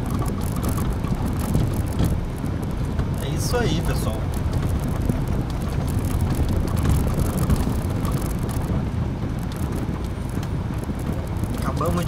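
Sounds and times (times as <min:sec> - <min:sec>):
car interior engine and tyre rumble: 0:00.0 - 0:12.0.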